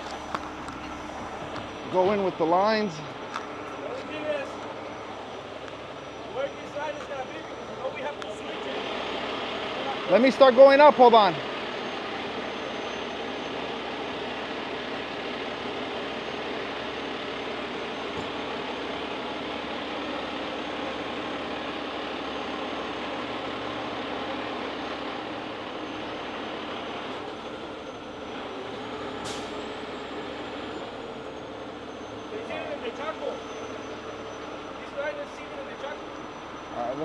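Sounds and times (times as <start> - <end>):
diesel engine running: 0.0 - 37.0
hydraulics working: 0.0 - 37.0.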